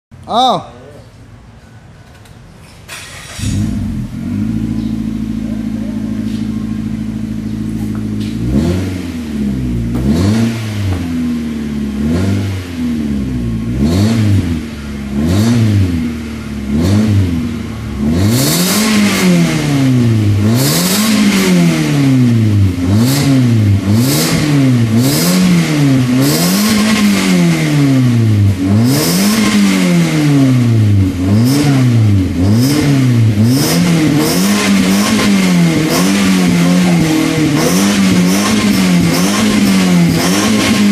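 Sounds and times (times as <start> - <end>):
car engine idling: 1.0 - 40.9
car engine revving: 2.9 - 40.9.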